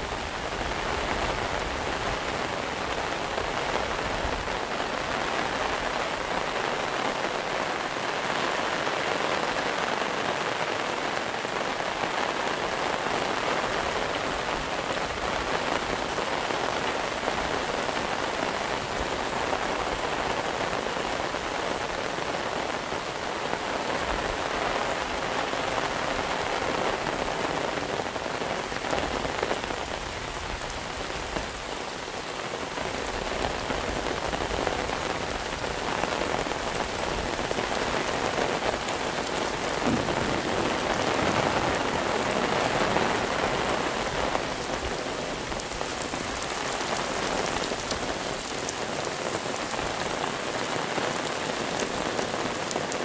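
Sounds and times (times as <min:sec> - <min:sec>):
heavy rain pattering: 0:00.0 - 0:53.0.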